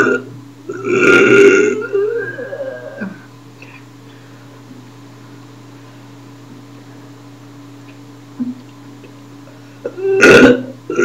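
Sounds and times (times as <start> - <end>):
room tone hum and hiss: 0.0 - 11.0.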